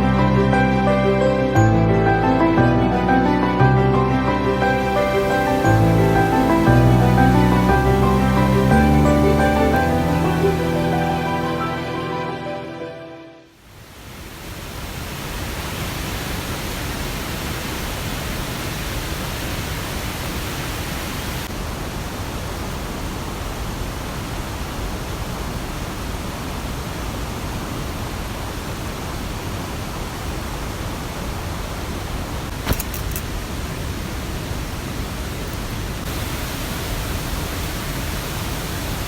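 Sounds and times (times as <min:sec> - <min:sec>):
water rushing: 0:00.0 - 0:39.0.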